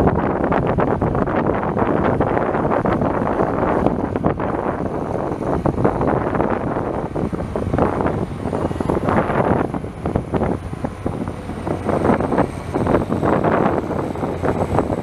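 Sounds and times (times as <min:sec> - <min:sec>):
diesel tractor engine surging: 0:00.0 - 0:15.0
wind buffeting microphone: 0:00.0 - 0:15.0.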